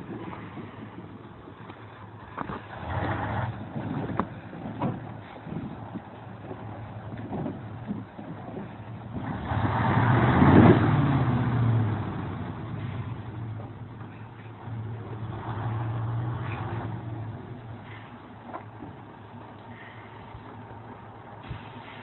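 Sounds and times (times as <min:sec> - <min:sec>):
logs sliding off trailer: 0:00.0 - 0:22.0
truck engine revving: 0:00.0 - 0:22.0.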